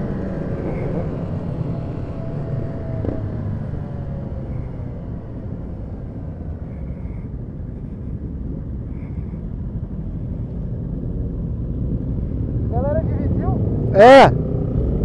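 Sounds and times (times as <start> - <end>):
motorcycle engine running: 0.0 - 13.6
wind and road rumble: 0.0 - 15.0.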